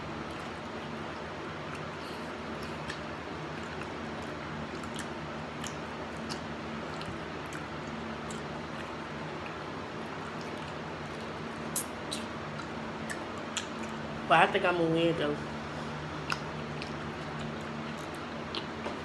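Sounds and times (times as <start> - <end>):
steady low hum: 0.0 - 19.0
chewing and lip smacks: 0.2 - 14.1, 15.8 - 19.0.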